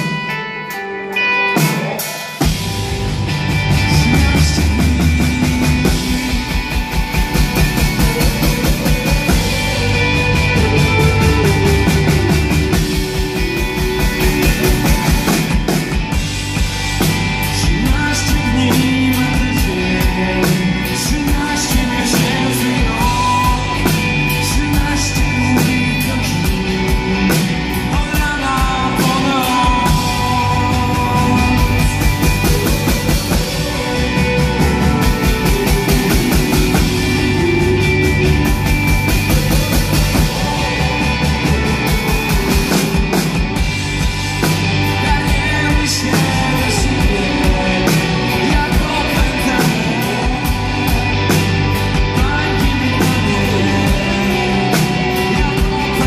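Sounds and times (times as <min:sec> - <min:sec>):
rock band playing: 0:00.0 - 0:56.0
drum and cymbal strokes: 0:01.6 - 0:24.8, 0:28.9 - 0:56.0.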